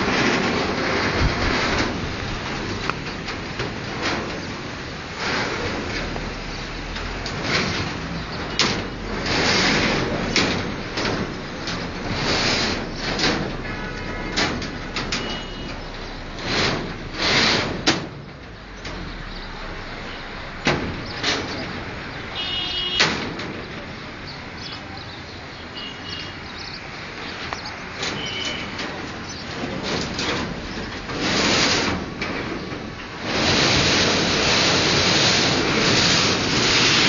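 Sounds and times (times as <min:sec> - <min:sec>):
scraping and knocking: 0:00.0 - 0:24.8, 0:27.3 - 0:37.0.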